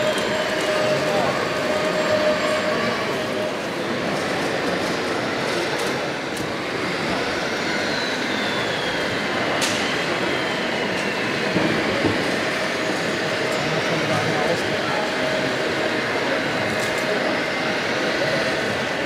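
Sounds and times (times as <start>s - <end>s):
din of busy crowd: 0.0s - 19.0s.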